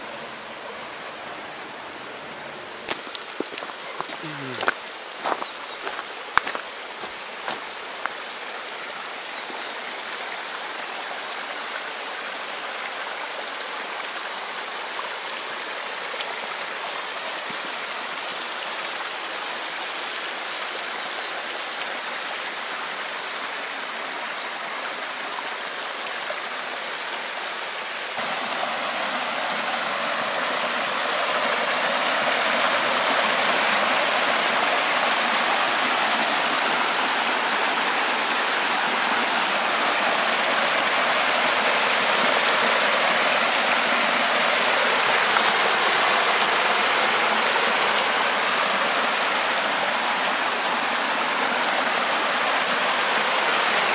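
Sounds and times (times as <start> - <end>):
water rushing: 0.0 - 53.9.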